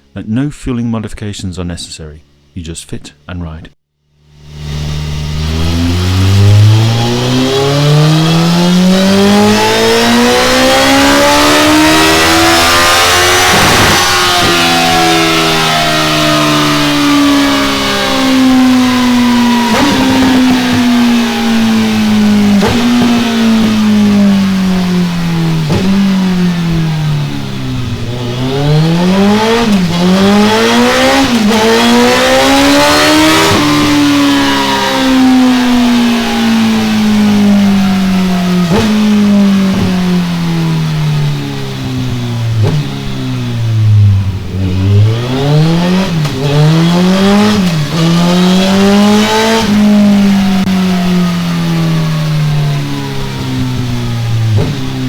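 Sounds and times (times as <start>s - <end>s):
motorcycle engine revving: 4.0s - 55.0s
exhaust cracks: 4.3s - 55.0s.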